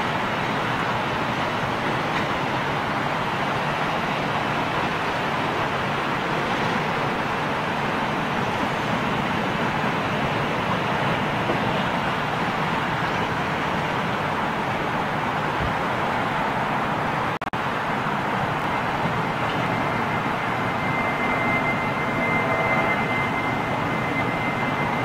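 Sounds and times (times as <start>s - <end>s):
jet aircraft roar: 0.0s - 25.0s.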